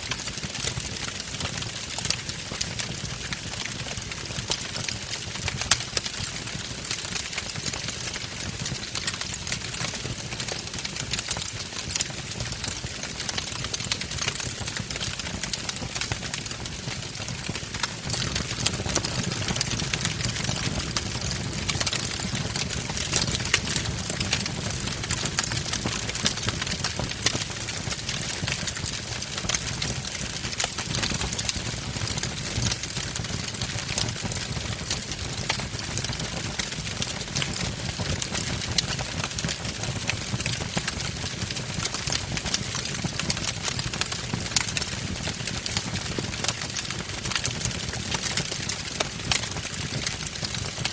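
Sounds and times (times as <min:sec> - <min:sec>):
fire crackling and popping: 0:00.0 - 0:50.9
low rumble of flame: 0:03.2 - 0:50.5.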